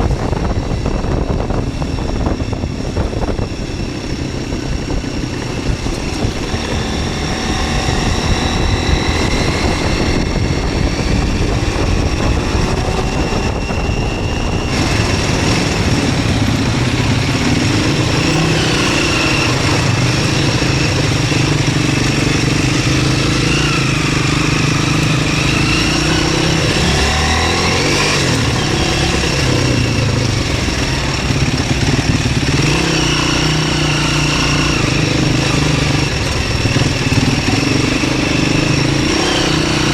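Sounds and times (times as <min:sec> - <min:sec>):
motorcycle engine revving: 0:00.0 - 0:39.9
riding noise rush: 0:00.0 - 0:39.9.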